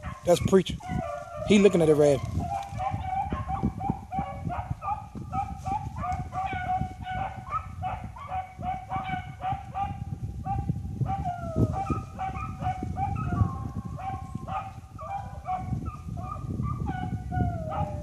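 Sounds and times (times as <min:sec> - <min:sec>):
hounds baying: 0:00.0 - 0:18.0.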